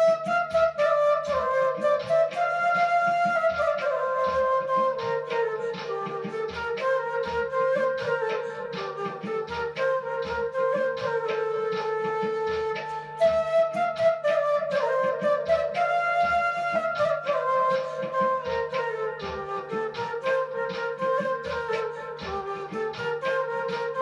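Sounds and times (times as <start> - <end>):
bamboo flute melody: 0.0 - 24.0.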